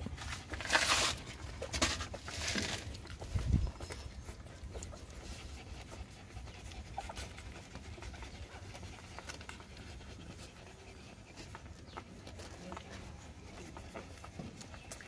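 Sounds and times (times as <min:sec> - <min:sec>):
rustling against fur and bedding: 0:00.0 - 0:15.0
puppies suckling clicks: 0:00.2 - 0:15.0.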